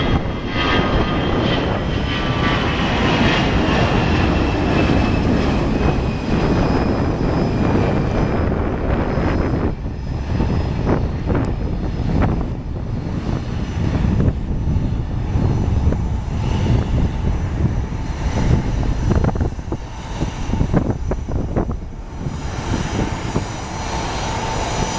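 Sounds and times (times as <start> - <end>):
jet engine roar with crackle: 0.0 - 24.9.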